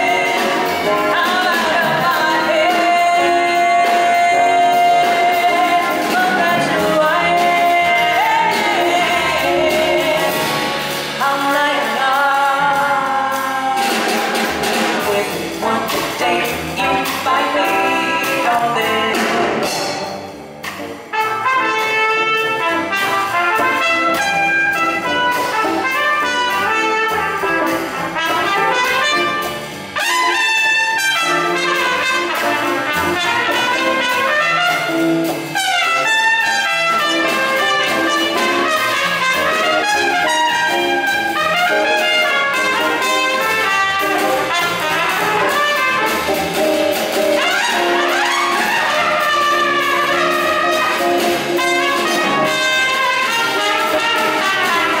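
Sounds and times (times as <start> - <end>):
trumpet solo: 0.0 - 12.3, 21.1 - 55.0
drum kit cymbals: 0.0 - 55.0.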